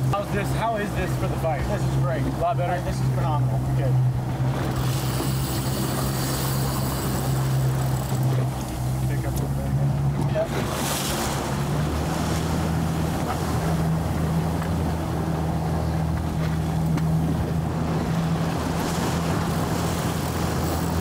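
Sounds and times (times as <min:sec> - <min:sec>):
boat engine humming: 0:00.0 - 0:21.0
water rushing past hull: 0:00.0 - 0:21.0.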